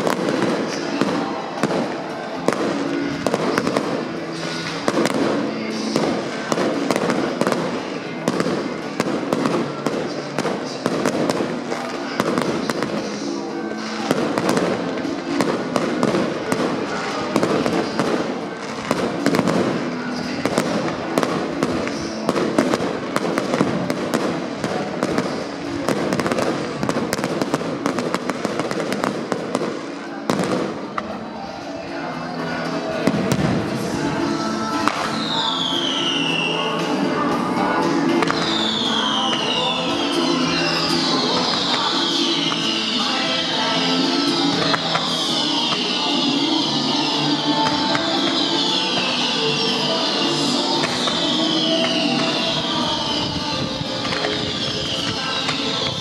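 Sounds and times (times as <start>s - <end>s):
fireworks bangs and crackles: 0.0s - 56.0s
music: 0.0s - 56.0s.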